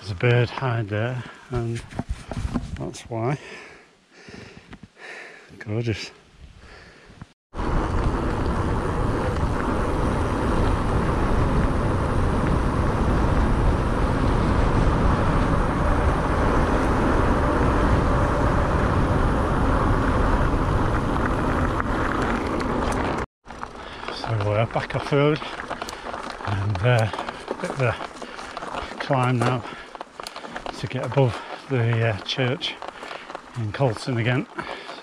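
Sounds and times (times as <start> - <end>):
bicycle tyre noise on road: 6.7 - 35.0.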